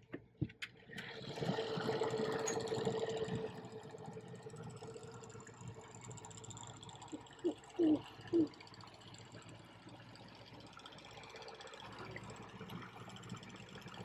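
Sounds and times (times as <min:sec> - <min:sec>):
small outboard motor running: 0:00.8 - 0:14.0.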